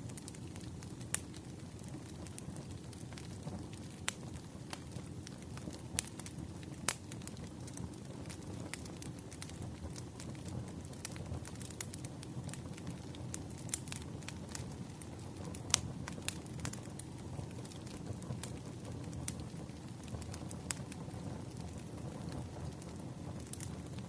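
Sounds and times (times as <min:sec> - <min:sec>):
burning wood crackling: 0:00.0 - 0:24.0
campfire flames rumbling: 0:00.0 - 0:24.0.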